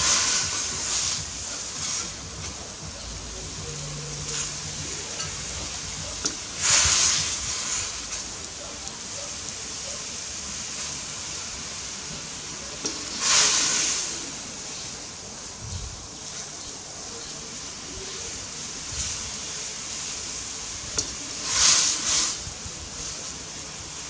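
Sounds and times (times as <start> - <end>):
water boiling hard in a wok: 0.0 - 24.0
water sizzling on hot wok: 0.0 - 24.0.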